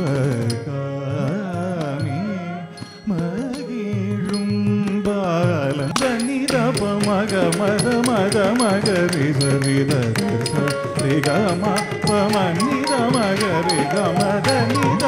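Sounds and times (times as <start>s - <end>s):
sharp percussive strikes: 0.0s - 15.0s
ornamented melody: 1.8s - 15.0s.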